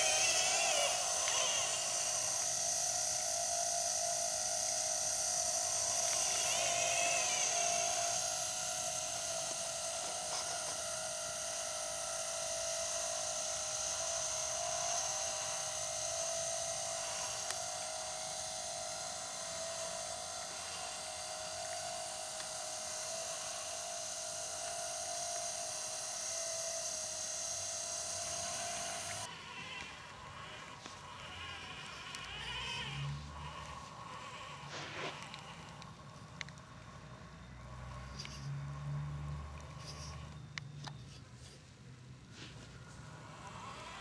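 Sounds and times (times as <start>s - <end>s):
electric motors whining: 0.0s - 44.0s.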